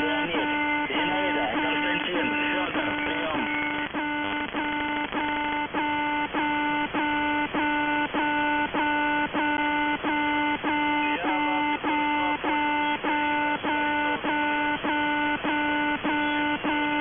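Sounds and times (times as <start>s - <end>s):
shortwave radio buzz: 0.0s - 17.0s.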